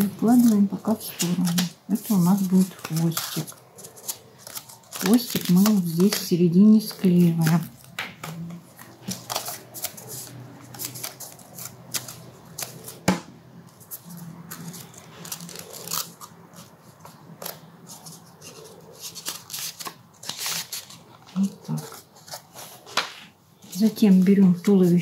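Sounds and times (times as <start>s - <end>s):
paper rustling: 0.0s - 25.0s.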